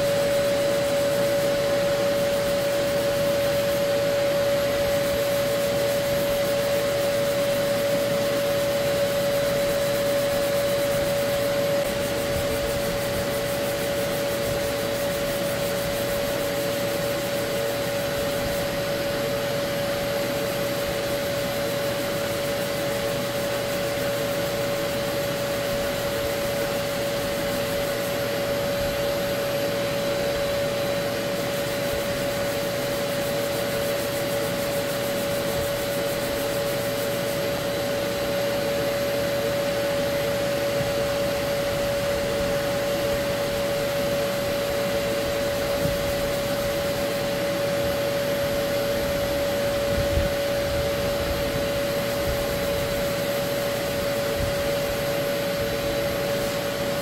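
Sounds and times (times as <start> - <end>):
vacuum humming and hissing: 0.0 - 57.0.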